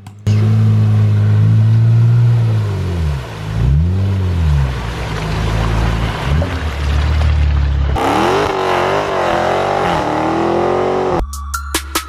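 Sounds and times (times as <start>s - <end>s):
engine running at high revs: 0.0s - 7.2s, 7.8s - 11.2s.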